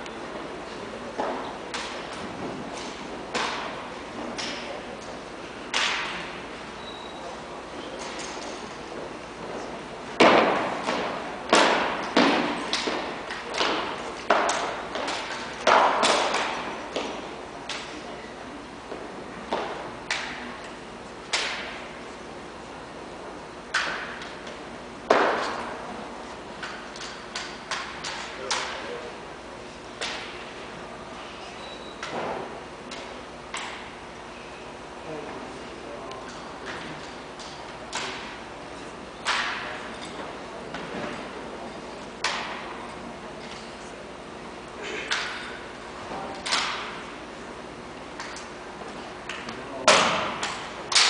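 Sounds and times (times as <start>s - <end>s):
echo in large gymnasium: 0.0s - 51.0s.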